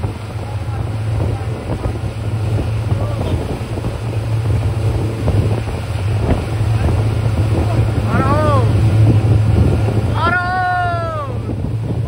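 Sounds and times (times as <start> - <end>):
motorboat engine humming: 0.0 - 12.0
wind buffeting microphone: 0.0 - 12.0.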